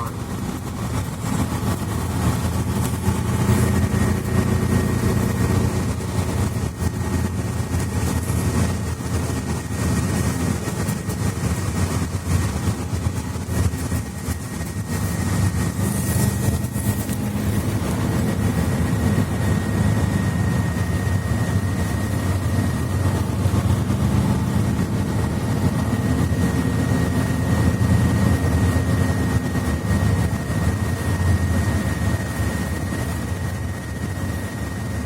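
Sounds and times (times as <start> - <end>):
bus engine running: 0.0 - 35.0.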